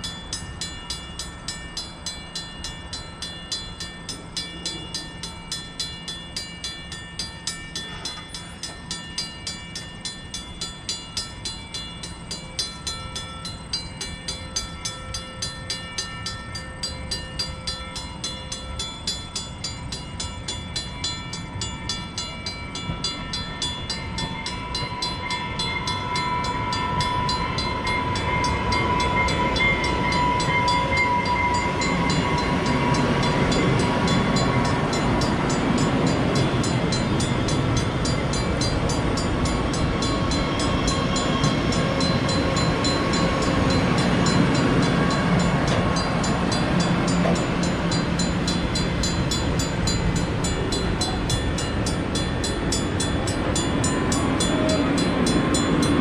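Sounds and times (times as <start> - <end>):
approaching train: 0.0 - 56.0
level crossing warning bell ringing: 0.0 - 56.0.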